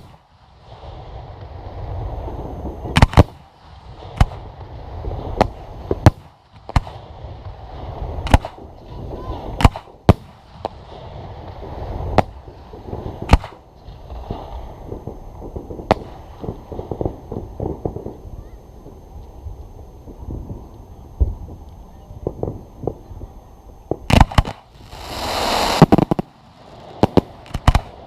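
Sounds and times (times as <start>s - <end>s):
fireworks bangs: 2.8s - 28.0s.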